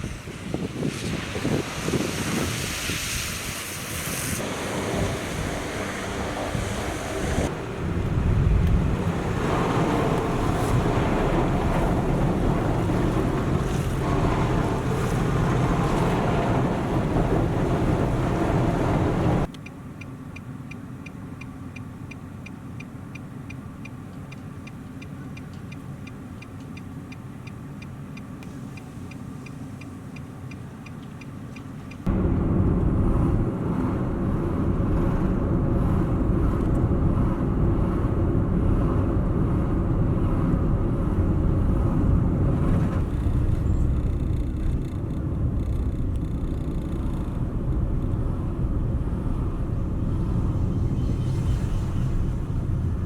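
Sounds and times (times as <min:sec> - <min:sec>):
road and engine rumble: 0:00.0 - 0:53.0
low cabin hum: 0:04.5 - 0:53.0.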